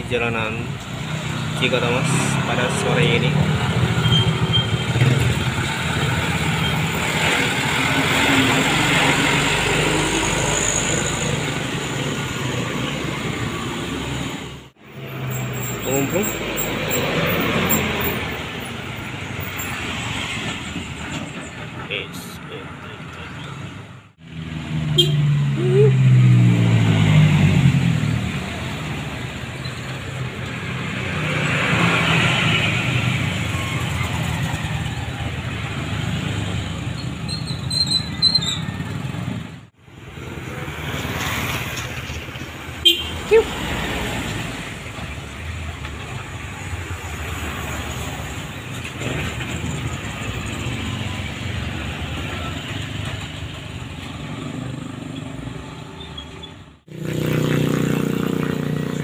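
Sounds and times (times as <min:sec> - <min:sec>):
motorcycles approaching: 0:00.0 - 0:59.0
truck diesel engine passing: 0:00.0 - 0:59.0
tyre road noise: 0:00.0 - 0:59.0.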